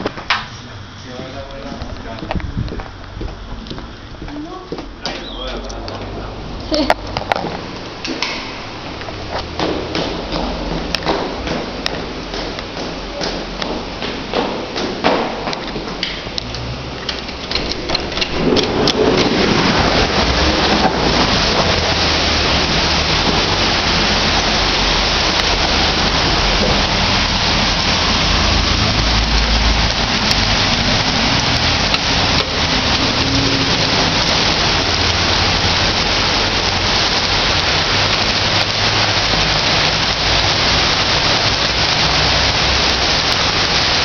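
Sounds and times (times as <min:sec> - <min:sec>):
heavy rain on a street: 0:04.0 - 0:44.0.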